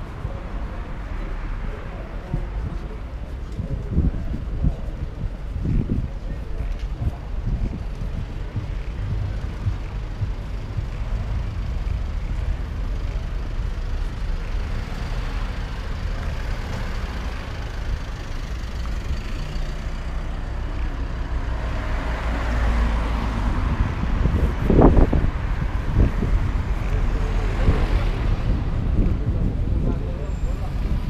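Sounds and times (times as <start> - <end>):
car engine hum: 0.0 - 31.0
street traffic noise: 0.0 - 31.0
wind rumbling on microphone: 0.0 - 31.0.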